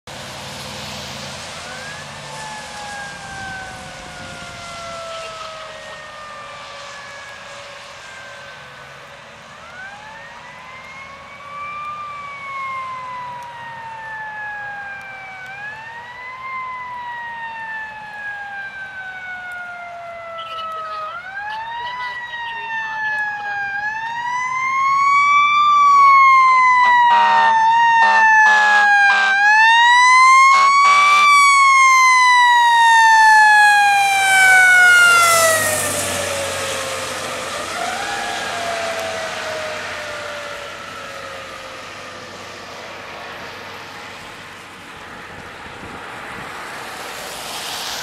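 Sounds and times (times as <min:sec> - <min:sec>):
mechanical siren wailing: 0:01.4 - 0:46.5.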